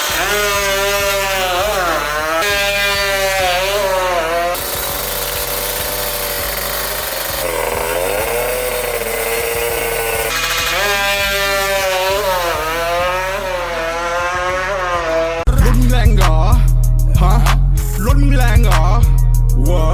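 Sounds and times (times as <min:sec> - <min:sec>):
two-stroke engine revving hard: 0:00.0 - 0:17.6.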